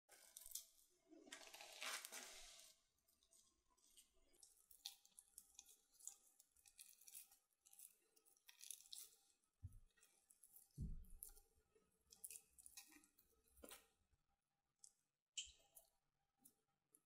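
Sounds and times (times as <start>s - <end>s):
sticky batter squishing: 0.1s - 17.0s.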